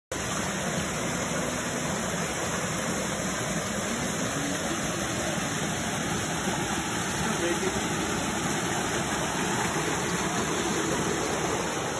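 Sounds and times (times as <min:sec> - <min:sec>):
creek water rushing: 0:00.1 - 0:11.9.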